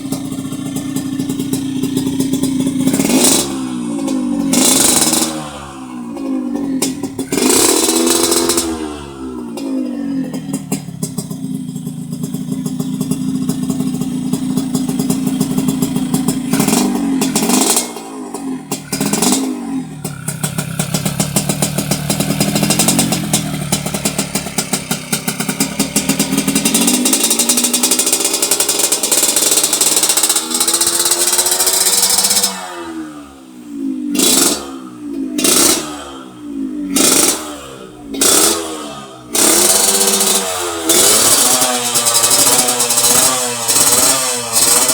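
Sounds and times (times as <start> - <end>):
two-stroke engine revving: 0.0 - 44.9.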